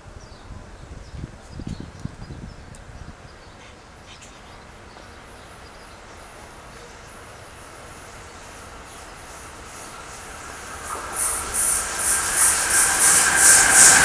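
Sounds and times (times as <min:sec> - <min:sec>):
train wheel and rail noise: 0:00.0 - 0:14.0.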